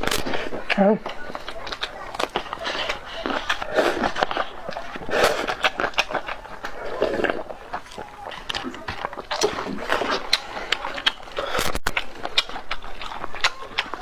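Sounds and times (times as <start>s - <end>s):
mouth clicks and smacks: 0.0s - 14.0s
wet chewing: 0.0s - 14.0s.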